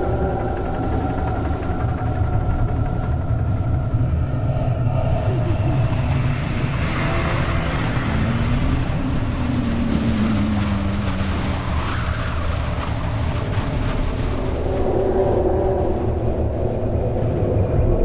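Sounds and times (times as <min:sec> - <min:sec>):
hissing wash: 0:00.0 - 0:18.0
low rumble: 0:00.0 - 0:18.0.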